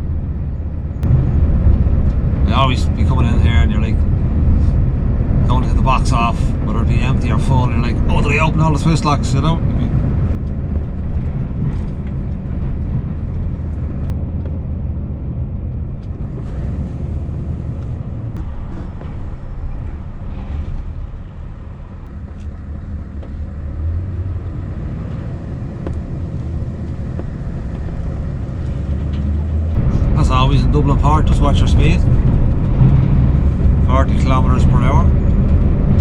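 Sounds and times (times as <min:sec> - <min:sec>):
diesel lorry engine running: 0:00.0 - 0:36.0.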